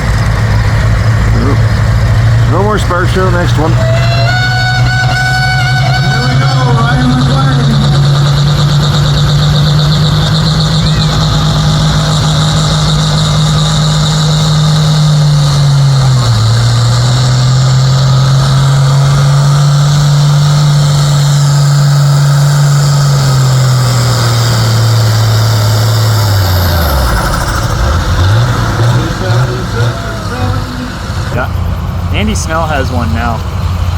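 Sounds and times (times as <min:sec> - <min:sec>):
high whine: 0:00.0 - 0:33.9
tractor engine at full throttle: 0:00.0 - 0:33.9.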